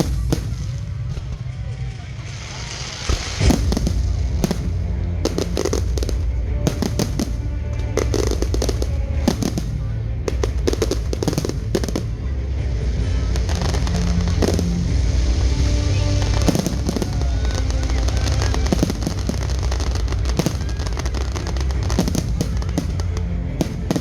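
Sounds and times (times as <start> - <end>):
fireworks banging and crackling: 0.0 - 24.0
music playing: 0.0 - 24.0.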